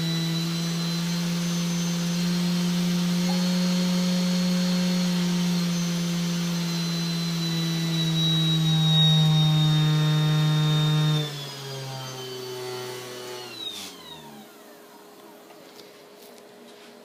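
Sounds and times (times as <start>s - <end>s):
spindle motor humming: 0.0s - 15.8s.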